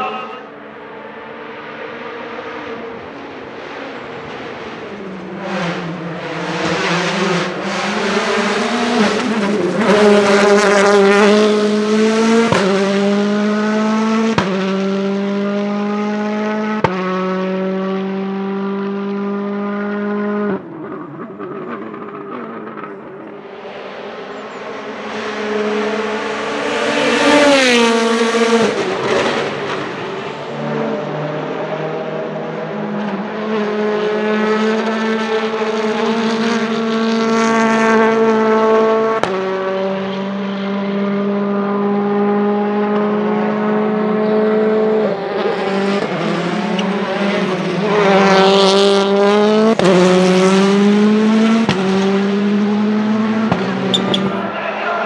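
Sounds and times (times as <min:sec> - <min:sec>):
rally car engine passing: 0:00.0 - 0:55.0.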